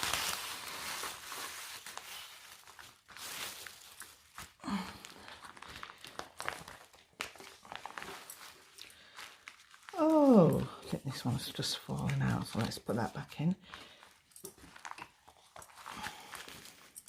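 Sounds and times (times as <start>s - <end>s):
paper and plastic sleeves rustling: 0.0s - 17.0s.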